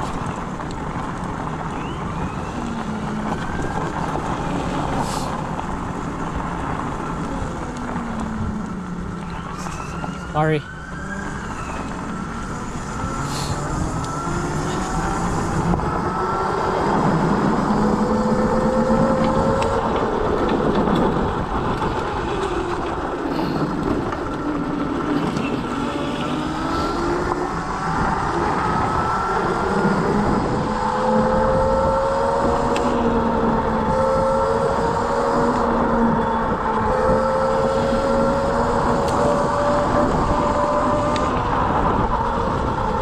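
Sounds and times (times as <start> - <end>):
road rumble: 0.0 - 43.0
scooter motor running: 0.0 - 43.0
wind: 0.0 - 43.0.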